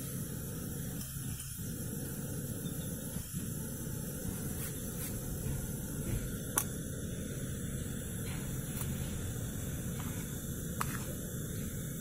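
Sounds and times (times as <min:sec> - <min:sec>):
camping stove hissing and roaring: 0:00.0 - 0:12.0.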